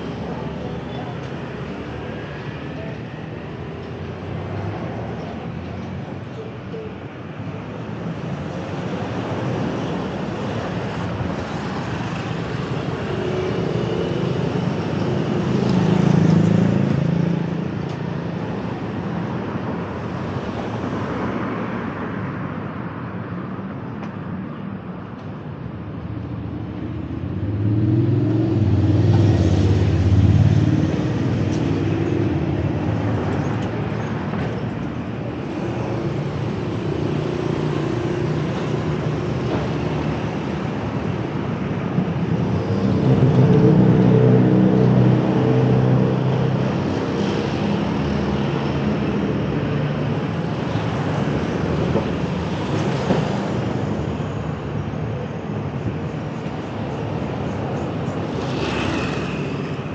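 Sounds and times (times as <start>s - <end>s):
loud vehicles passing: 0.0s - 59.9s
road traffic passing: 0.0s - 59.9s.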